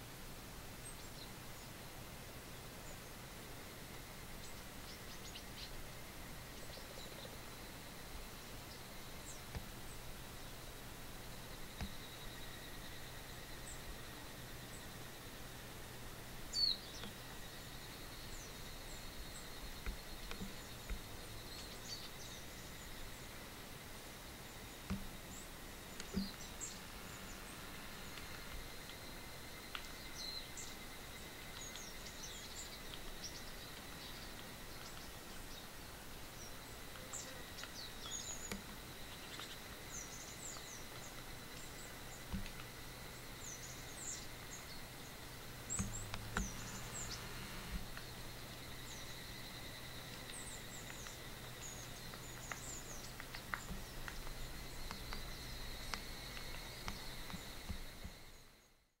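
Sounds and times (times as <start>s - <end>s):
insect drone: 0.0s - 59.0s
small birds chirping: 0.7s - 58.9s.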